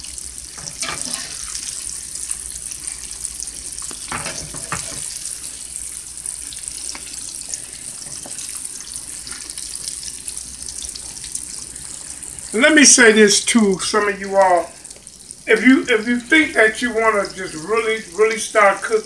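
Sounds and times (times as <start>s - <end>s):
croquettes sizzling in oil: 0.0s - 19.0s.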